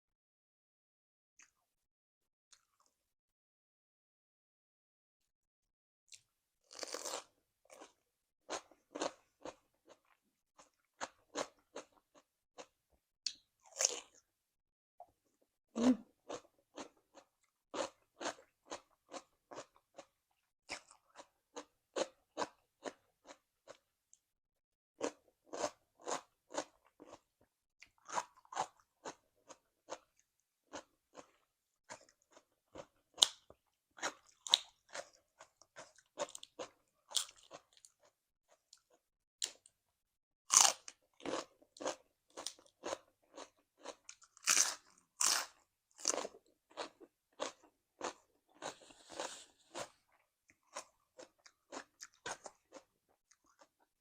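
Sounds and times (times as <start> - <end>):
person chewing crunchy food: 6.1 - 12.7, 13.4 - 14.3, 15.8 - 23.8, 25.0 - 39.6, 40.5 - 54.0.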